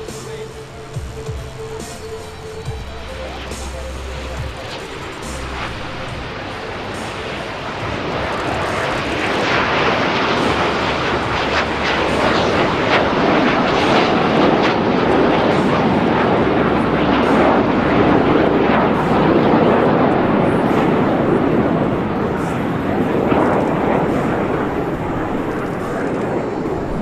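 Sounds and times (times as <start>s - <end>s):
jet engines flying past: 0.0s - 27.0s.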